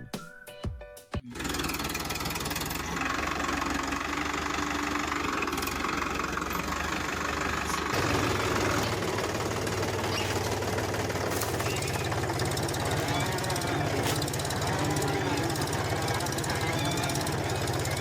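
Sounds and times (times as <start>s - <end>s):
tractor engine running: 1.3s - 18.0s.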